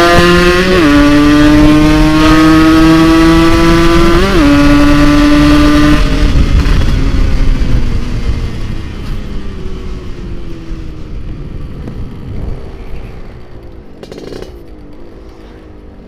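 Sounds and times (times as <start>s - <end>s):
motorcycle engine accelerating: 0.0s - 16.0s
rush of wind: 0.0s - 16.0s.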